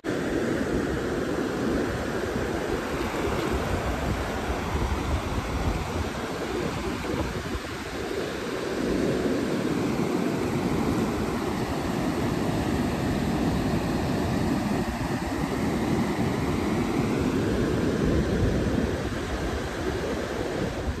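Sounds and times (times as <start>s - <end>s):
ocean surf breaking: 0.0s - 21.0s
wind buffeting microphone: 0.1s - 21.0s.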